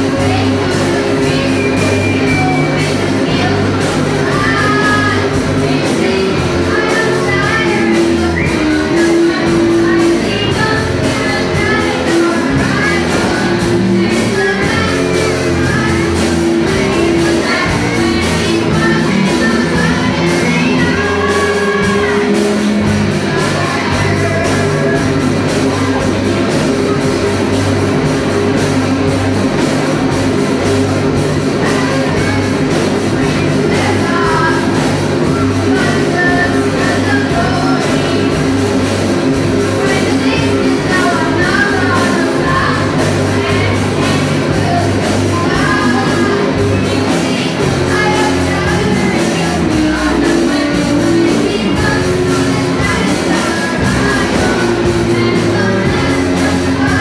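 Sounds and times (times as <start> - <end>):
bass guitar: 0.0 - 57.0
drums and cymbals: 0.0 - 57.0
electric guitar: 0.0 - 57.0
person singing: 0.0 - 57.0.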